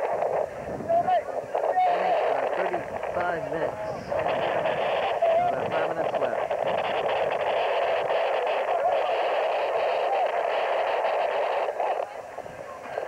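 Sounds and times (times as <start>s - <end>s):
babble of many voices: 0.0s - 13.0s.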